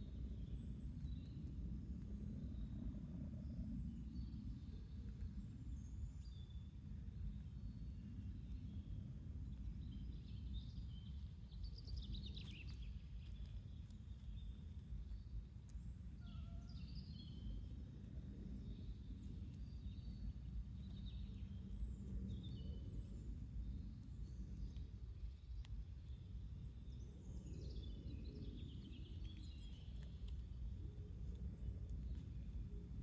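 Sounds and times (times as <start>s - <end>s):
low background rumble: 0.0s - 33.0s.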